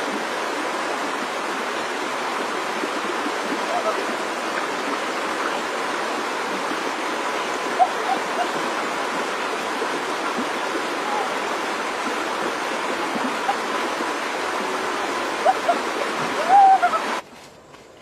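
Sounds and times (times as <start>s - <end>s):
river water rushing: 0.0s - 17.2s.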